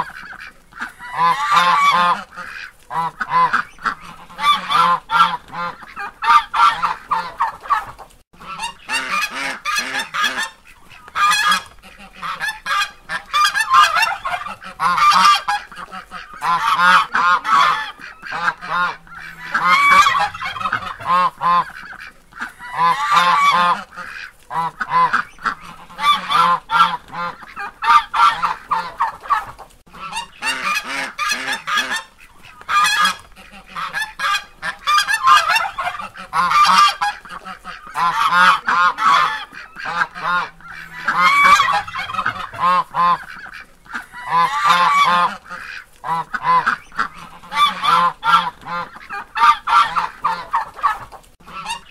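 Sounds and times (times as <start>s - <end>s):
geese honking: 0.0s - 51.9s.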